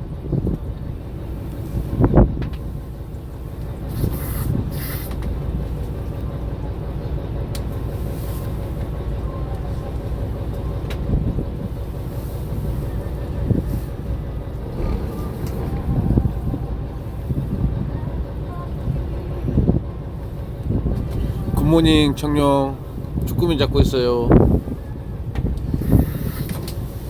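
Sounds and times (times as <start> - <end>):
boat engine low rumble: 0.0 - 27.0.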